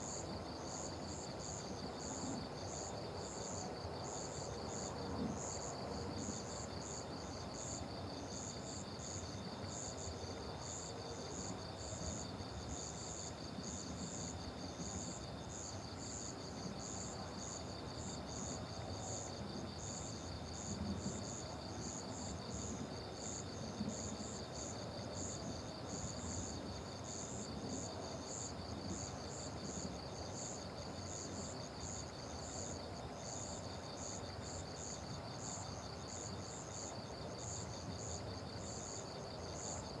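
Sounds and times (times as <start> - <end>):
low background hiss: 0.0 - 40.0.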